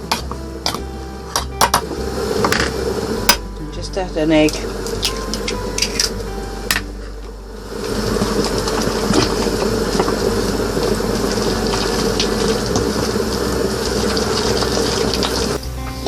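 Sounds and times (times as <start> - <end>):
electric mixer running: 1.6 - 15.6.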